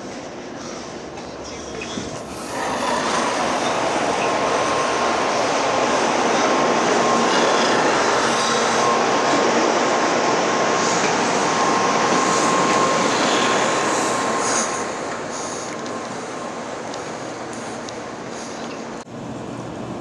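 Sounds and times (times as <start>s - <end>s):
faint steady whine: 0.0s - 20.0s
train wheels and air rushing: 0.0s - 20.0s.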